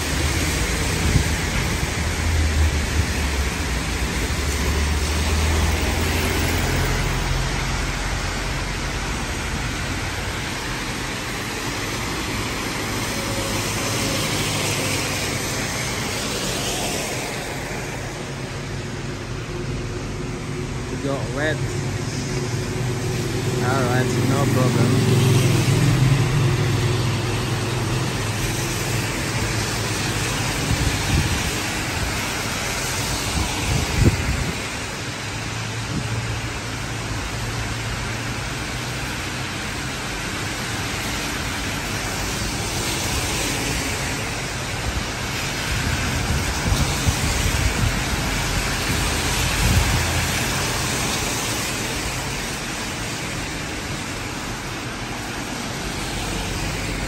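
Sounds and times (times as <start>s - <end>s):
cars passing on wet road: 0.0s - 57.0s
heavy rain on street: 0.0s - 57.0s.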